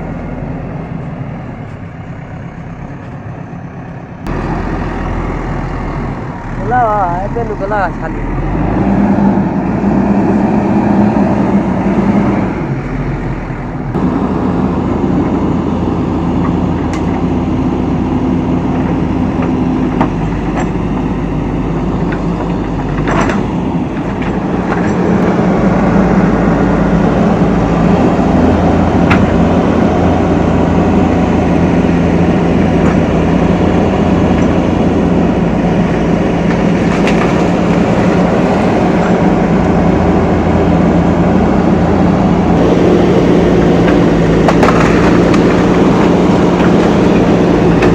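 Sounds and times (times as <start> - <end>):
diesel engine under load: 0.0 - 47.9.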